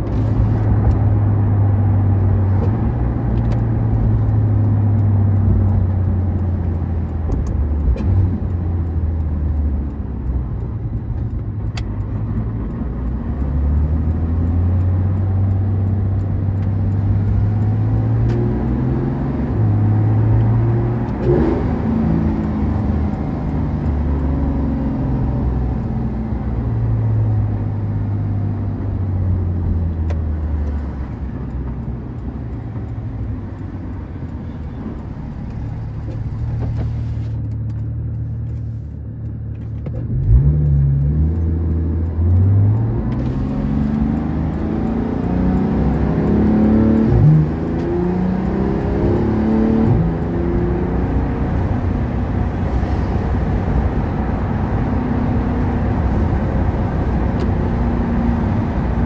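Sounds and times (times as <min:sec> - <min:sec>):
car engine accelerating and shifting: 0:00.0 - 0:59.0
tyre and road noise: 0:00.0 - 0:59.0.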